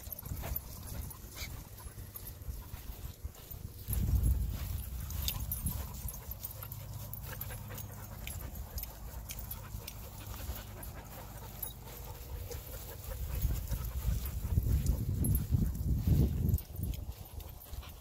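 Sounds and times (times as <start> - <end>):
dogs panting: 0.0 - 18.0.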